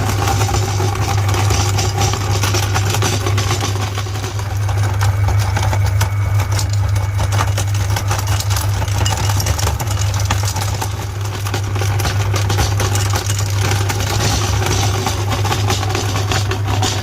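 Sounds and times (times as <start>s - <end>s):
candy crunching in grinder: 0.0s - 17.0s
meat grinder motor humming: 0.0s - 17.0s.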